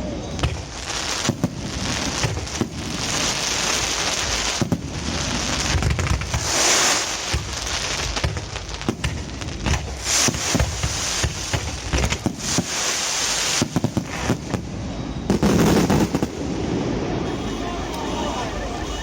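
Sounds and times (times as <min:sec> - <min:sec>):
fireworks sparkle hissing: 0:00.0 - 0:19.0
fireworks pops and cracks: 0:00.3 - 0:16.9.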